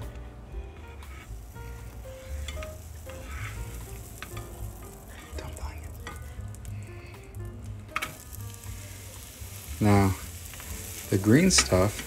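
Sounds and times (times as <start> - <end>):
low steady hum: 0.0 - 11.1
butter sizzling in a pan: 0.5 - 12.0.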